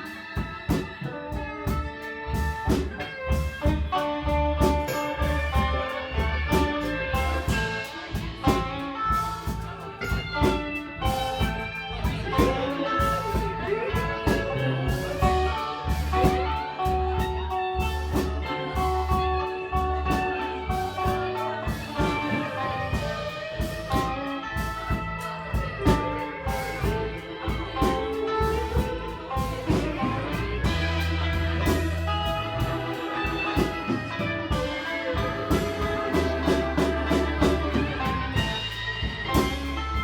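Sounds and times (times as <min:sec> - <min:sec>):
bass guitar: 0:00.0 - 0:40.0
drum kit beat: 0:00.0 - 0:40.0
electric guitar: 0:00.0 - 0:40.0.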